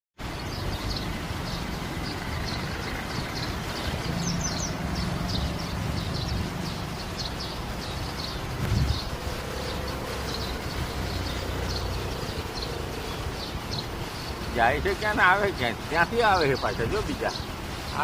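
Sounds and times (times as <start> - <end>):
high sweeping bird notes: 0.2 - 18.0
small birds chirping: 0.2 - 18.0.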